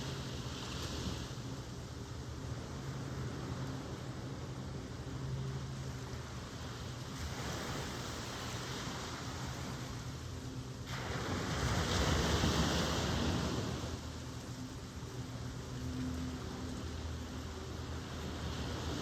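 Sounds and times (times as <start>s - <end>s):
waves breaking on shore: 0.0s - 19.0s.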